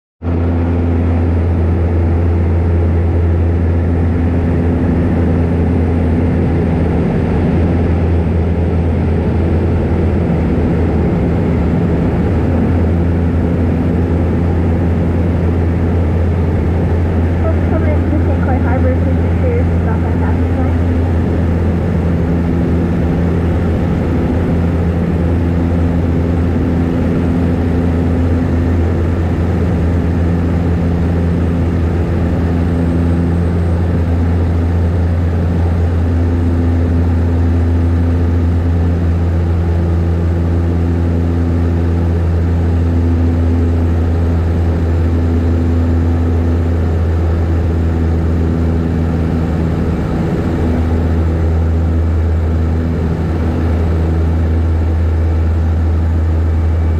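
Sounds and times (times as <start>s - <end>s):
higher engine tones: 0.2s - 56.9s
propeller hum: 0.2s - 56.9s.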